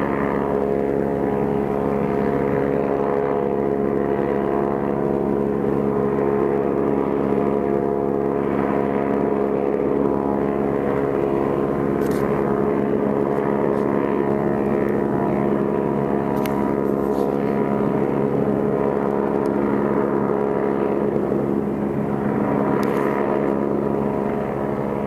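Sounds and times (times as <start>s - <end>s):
helicopter drone: 0.0s - 25.0s.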